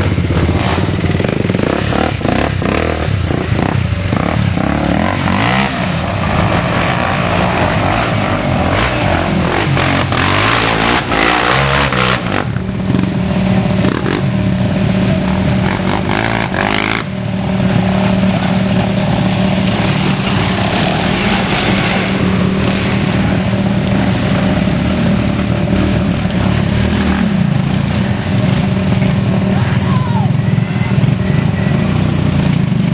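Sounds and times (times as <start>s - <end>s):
motor vehicle engine running: 0.0s - 32.9s.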